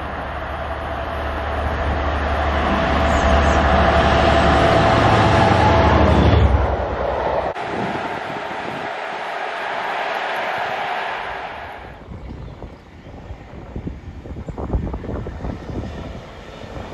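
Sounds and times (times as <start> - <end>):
diesel locomotive engine working: 0.0 - 8.8, 11.4 - 16.9
steady whine: 0.0 - 16.9.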